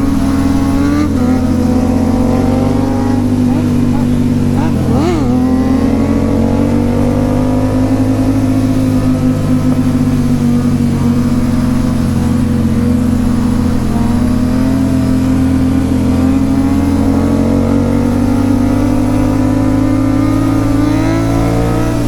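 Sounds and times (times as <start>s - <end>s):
constant rushing noise: 0.0s - 22.0s
motorcycle engine cruising: 0.0s - 22.0s.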